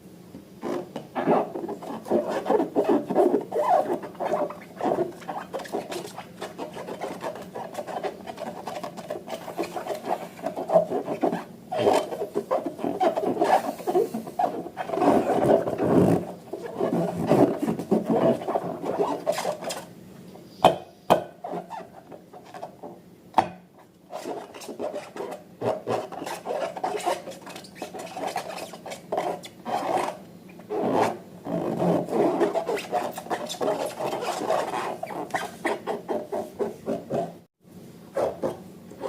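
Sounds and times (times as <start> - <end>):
hands rubbing balloons and slime: 0.6 - 19.9, 24.1 - 37.4.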